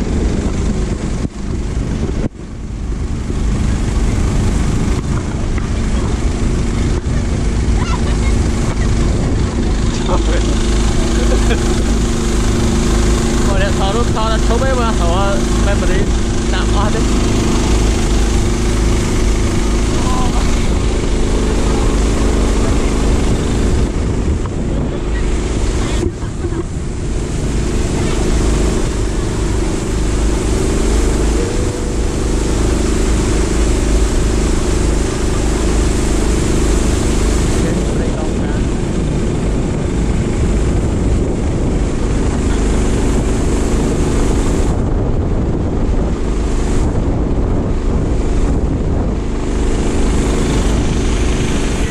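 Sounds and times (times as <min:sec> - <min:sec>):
boat engine running: 0:00.0 - 0:51.9
water rushing along hull: 0:00.0 - 0:51.9
wind on microphone: 0:00.0 - 0:51.9.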